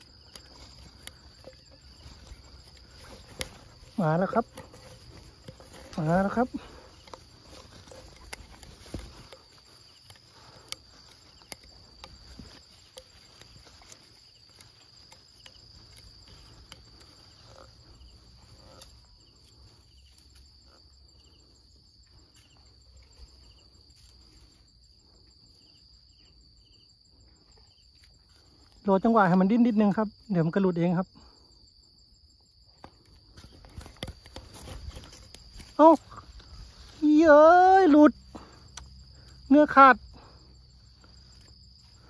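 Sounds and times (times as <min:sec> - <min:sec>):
insects shrilling: 0:00.0 - 0:42.0.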